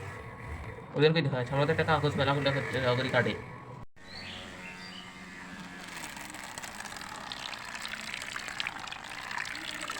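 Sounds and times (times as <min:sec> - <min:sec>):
faint motor tone: 0:00.0 - 0:09.9.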